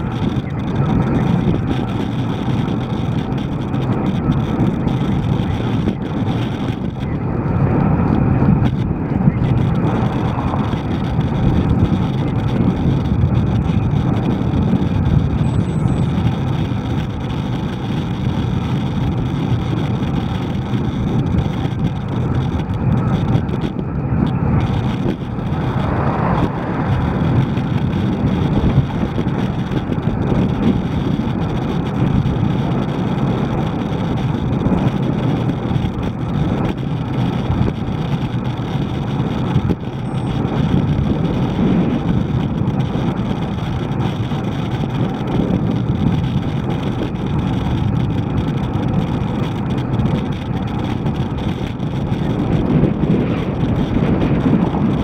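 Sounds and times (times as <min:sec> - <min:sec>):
road and traffic noise: 0:00.0 - 0:55.0
wind noise on microphone: 0:00.0 - 0:55.0.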